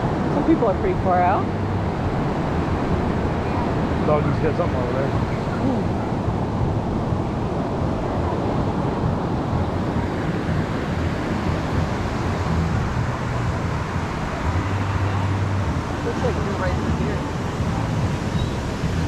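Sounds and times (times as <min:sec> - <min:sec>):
ocean surf washing onto beach: 0:00.0 - 0:19.0
wind buffeting microphone: 0:00.0 - 0:19.0.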